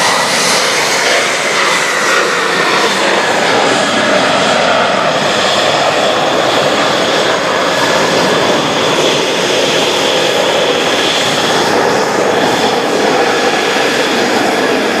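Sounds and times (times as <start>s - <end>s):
jet engine roar with high whine: 0.0s - 15.0s.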